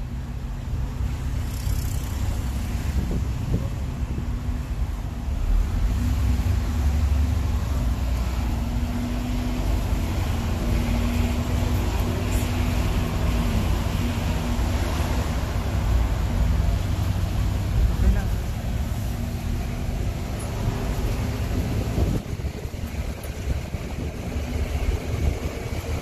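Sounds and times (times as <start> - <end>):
bus engine drone: 0.0 - 26.0
road noise rumble: 0.0 - 26.0.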